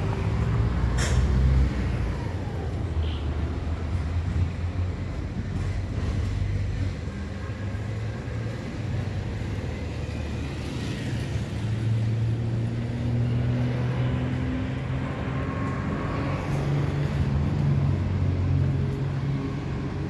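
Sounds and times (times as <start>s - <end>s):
passing cars: 0.0s - 20.0s.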